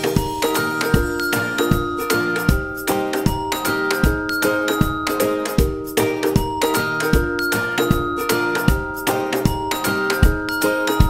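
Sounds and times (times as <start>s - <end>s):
chiming tune over a beat: 0.0s - 11.0s.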